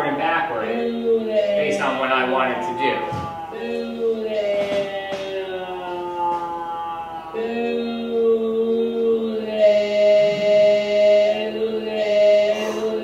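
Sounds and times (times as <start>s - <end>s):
slowed stretched voice tones: 0.0s - 13.0s.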